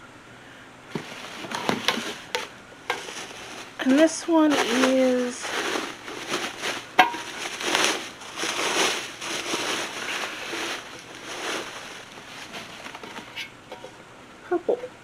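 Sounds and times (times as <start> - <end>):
plastic packaging crinkling: 0.9 - 13.8.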